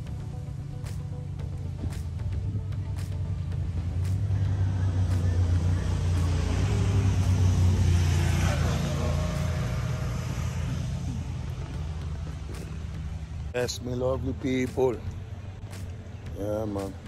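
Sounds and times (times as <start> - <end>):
vehicle engine rumble passing: 0.0 - 17.0.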